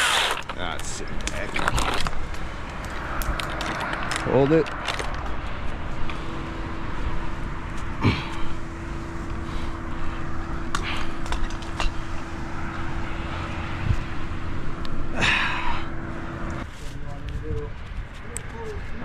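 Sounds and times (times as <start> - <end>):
motor humming: 0.0 - 16.7.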